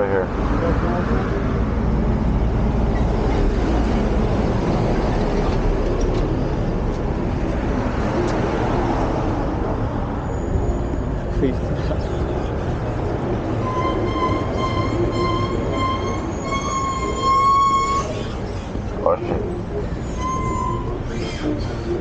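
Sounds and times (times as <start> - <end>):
rumble of passing vehicles: 0.0 - 22.0
truck passing: 0.0 - 22.0.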